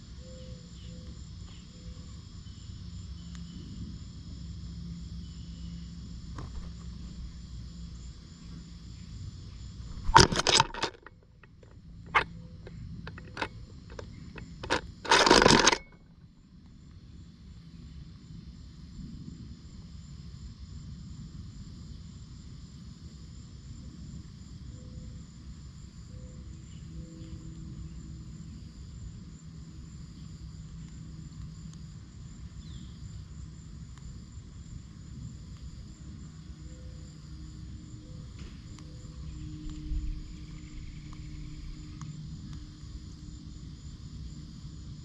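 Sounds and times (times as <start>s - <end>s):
high hum of insects: 0.0s - 45.0s.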